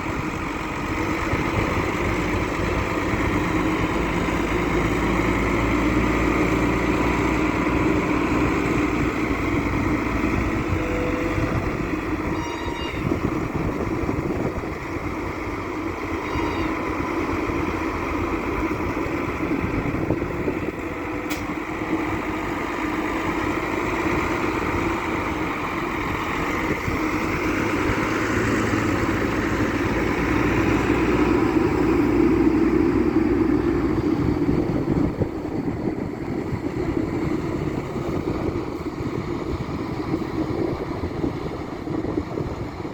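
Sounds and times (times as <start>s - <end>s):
wheel loader diesel engine: 0.0s - 42.9s.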